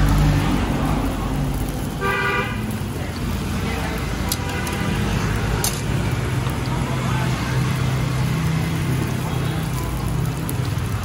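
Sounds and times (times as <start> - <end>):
food sizzling in oil: 0.0 - 11.0
motor traffic hum: 0.0 - 11.0.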